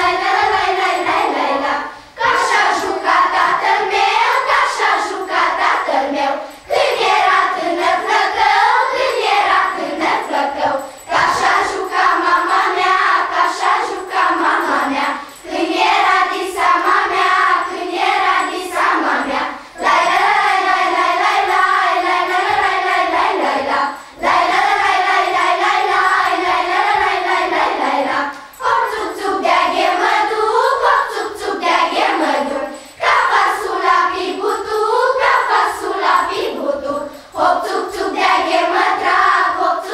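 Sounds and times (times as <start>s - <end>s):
children's choir singing carol: 0.0s - 39.9s.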